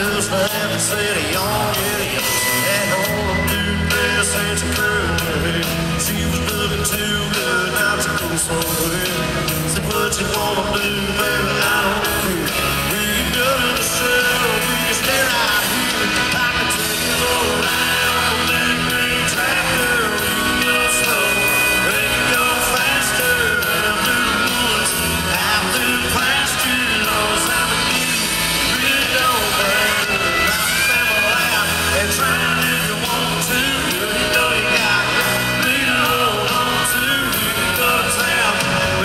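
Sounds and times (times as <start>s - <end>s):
acoustic guitar: 0.0s - 39.0s
man singing: 0.0s - 39.0s.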